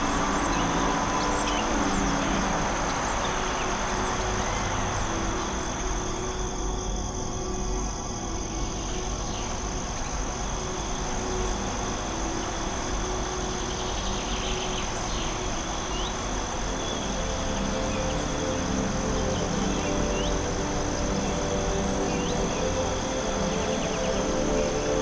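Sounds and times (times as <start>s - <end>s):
ambient music pad: 0.0s - 25.0s
background hiss: 0.0s - 25.0s
insects buzzing: 0.0s - 25.0s.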